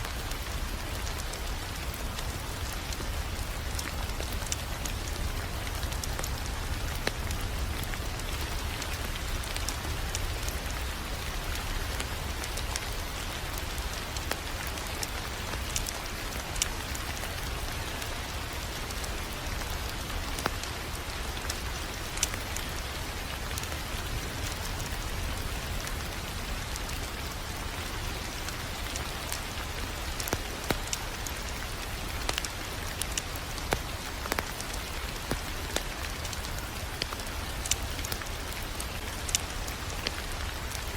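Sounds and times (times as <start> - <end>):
low fire rumble: 0.0 - 40.9
wood fire crackling: 0.0 - 40.9.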